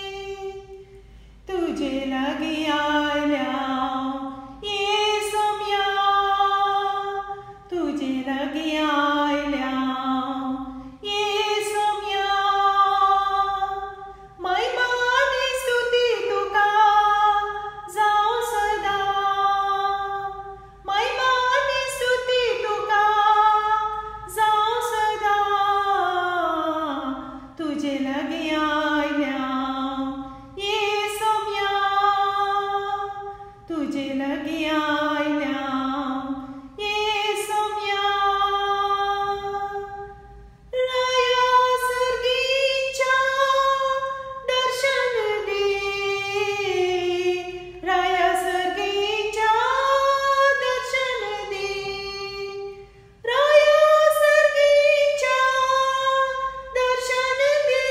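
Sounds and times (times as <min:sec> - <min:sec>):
woman singing unaccompanied: 0:00.0 - 0:57.9.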